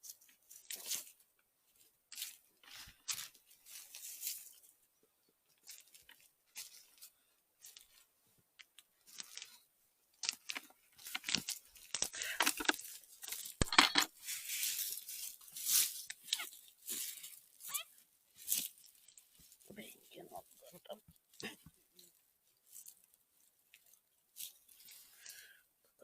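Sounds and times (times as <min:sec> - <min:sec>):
dry leaves and twigs rustling: 0:00.0 - 0:25.6.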